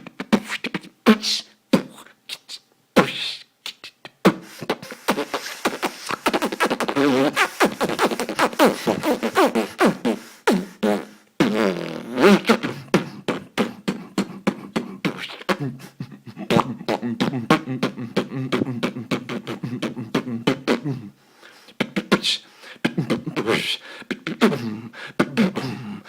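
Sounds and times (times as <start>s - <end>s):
man beatboxing: 0.0s - 25.9s.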